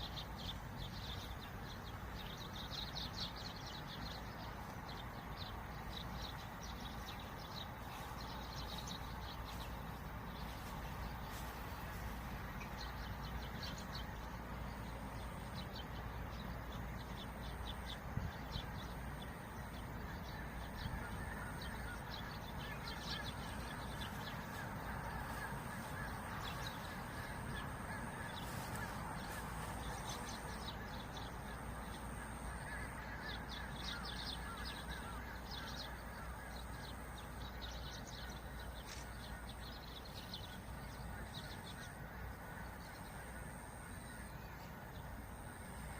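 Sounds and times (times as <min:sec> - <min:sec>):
birds calling: 0:00.0 - 0:45.9.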